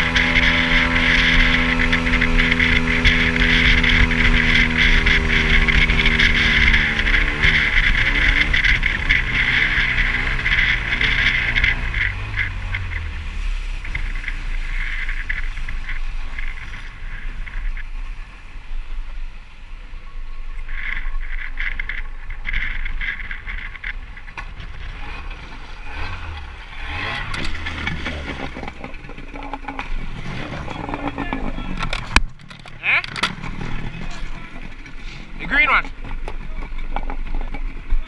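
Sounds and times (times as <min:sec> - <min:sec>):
outboard motor: 0:00.0 - 0:38.0
water splashing along hull: 0:00.0 - 0:38.0.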